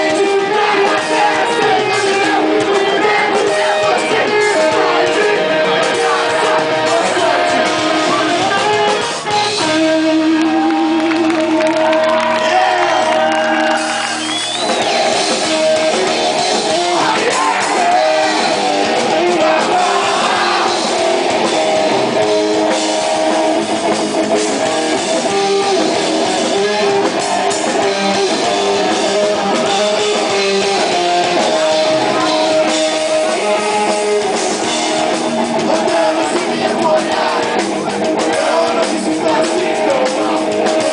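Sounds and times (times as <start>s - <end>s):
person singing: 0.0s - 13.3s, 15.3s - 20.9s, 25.3s - 40.9s
drum kit: 0.0s - 40.9s
electric guitars: 0.0s - 40.9s.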